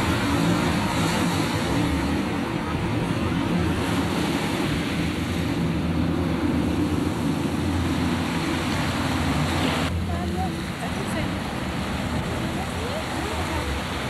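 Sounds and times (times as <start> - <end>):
choppy sea: 0.0 - 14.0
low motor drone: 0.0 - 14.0
wind buffeting microphone: 0.0 - 14.0.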